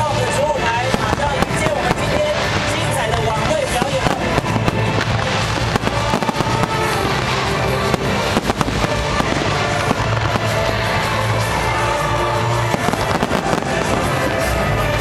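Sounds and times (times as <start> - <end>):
fireworks bangs and crackling: 0.0 - 15.0
music over loudspeakers: 0.0 - 15.0.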